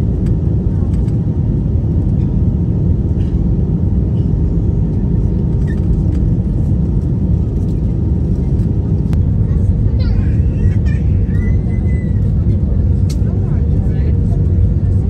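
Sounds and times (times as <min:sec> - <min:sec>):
engine and airflow rumble in cabin: 0:00.0 - 0:15.0.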